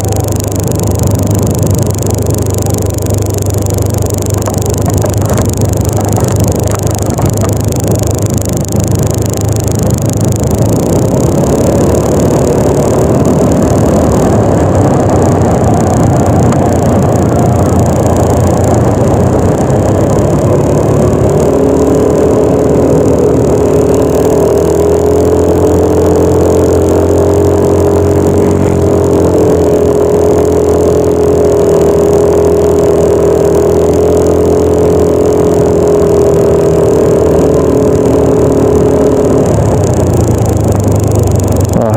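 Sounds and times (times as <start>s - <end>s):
scooter engine running: 0.0s - 41.9s
wind and road noise: 0.0s - 41.9s.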